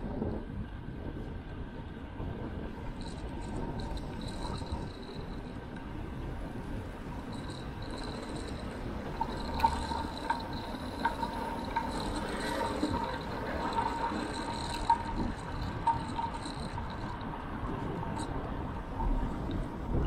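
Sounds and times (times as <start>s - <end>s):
road and wind rumble: 0.0s - 20.0s
thin high whine: 2.8s - 20.0s
sharp ticks: 2.9s - 6.0s, 6.7s - 20.0s.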